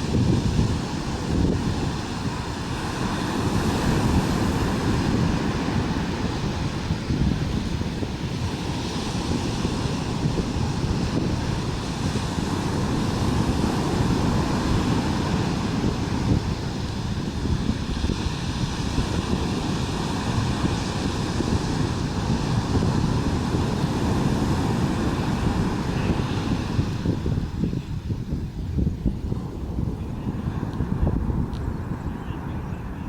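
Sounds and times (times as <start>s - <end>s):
ocean surf: 0.0s - 33.0s
wind buffeting microphone: 0.0s - 33.0s.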